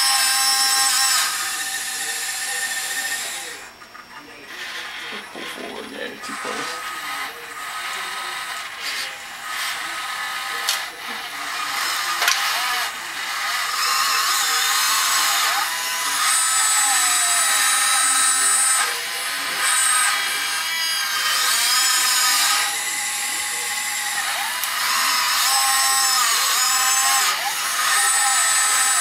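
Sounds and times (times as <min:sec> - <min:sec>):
small electric motors whining: 0:00.0 - 0:29.0.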